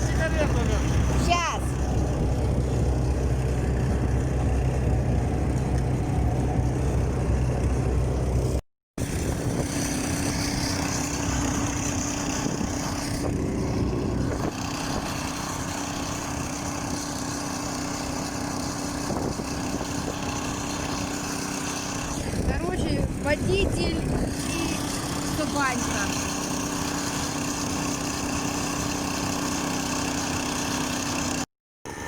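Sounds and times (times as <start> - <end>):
small vehicle engine rumbling: 0.0 - 32.0.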